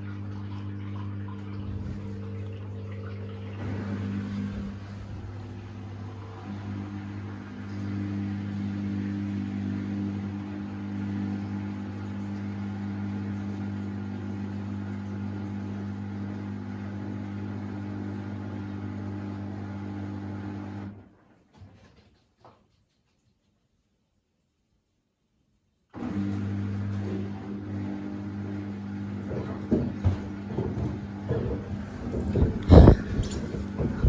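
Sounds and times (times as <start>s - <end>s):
washing machine drain pump humming: 0.0s - 21.1s, 26.0s - 34.0s.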